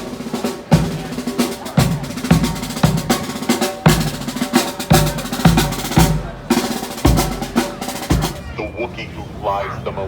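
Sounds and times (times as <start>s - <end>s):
drum-led music with bass thumps: 0.0s - 8.5s.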